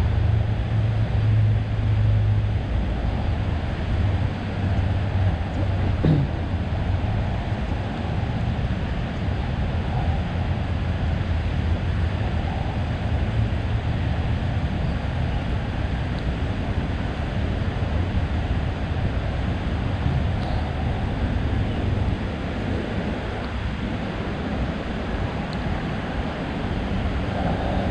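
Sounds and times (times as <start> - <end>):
low rumble of traffic: 0.0 - 27.9.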